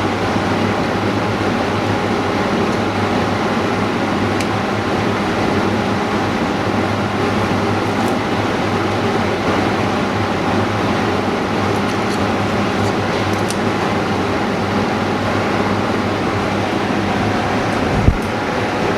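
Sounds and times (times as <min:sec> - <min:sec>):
constant whine: 0:00.0 - 0:18.9
machine hum and hiss: 0:00.0 - 0:18.9.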